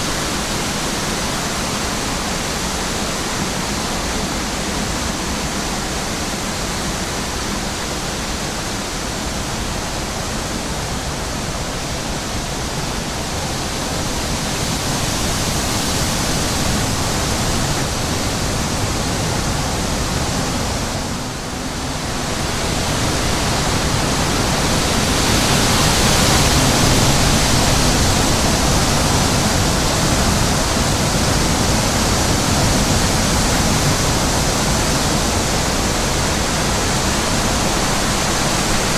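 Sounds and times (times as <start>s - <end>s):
wind blowing: 0.0s - 38.9s.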